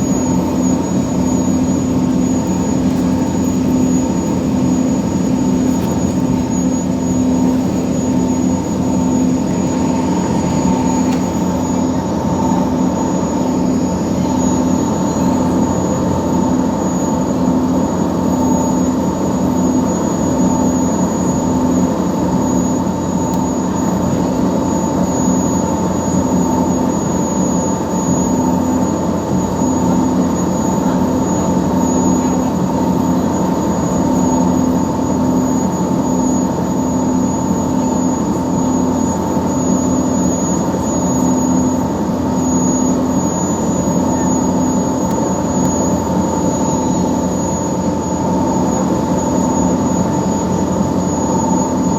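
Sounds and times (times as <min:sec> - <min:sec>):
ferry diesel engine droning: 0:00.0 - 0:50.3.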